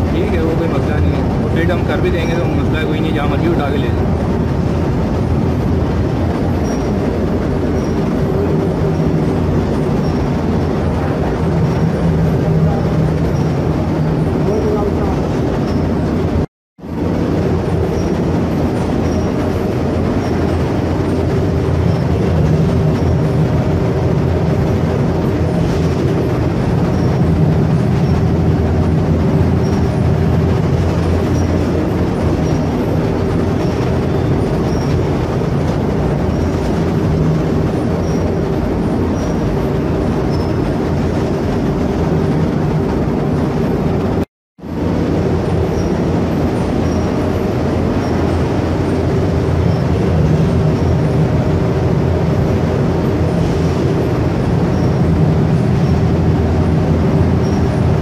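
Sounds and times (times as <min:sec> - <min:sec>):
constant low hum: 0:00.0 - 0:58.0
loud mechanical rumble: 0:00.0 - 0:58.0.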